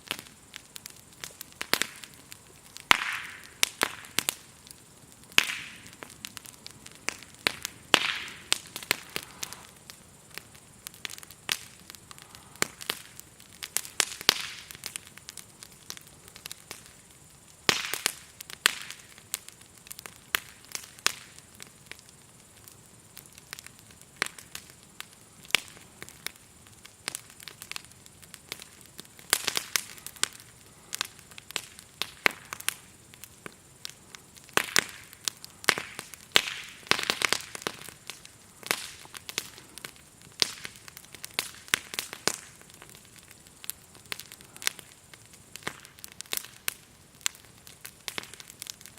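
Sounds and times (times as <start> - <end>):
wood fire crackling and popping: 0.0 - 48.9
grasshoppers chirring: 0.1 - 48.9.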